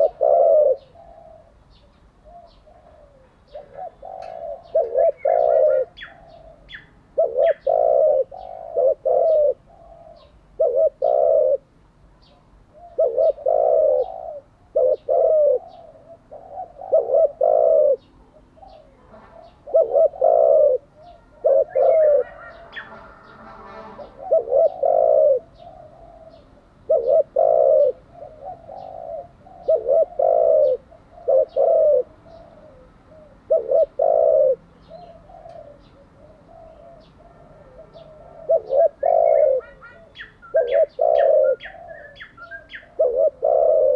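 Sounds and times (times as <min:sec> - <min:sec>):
dove cooing: 0:00.0 - 0:43.9
small birds chirping: 0:00.0 - 0:43.9.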